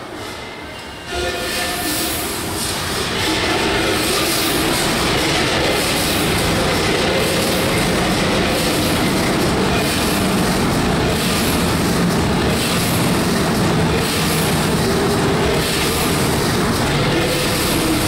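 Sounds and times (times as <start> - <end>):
diesel engine clattering: 2.6 - 18.0.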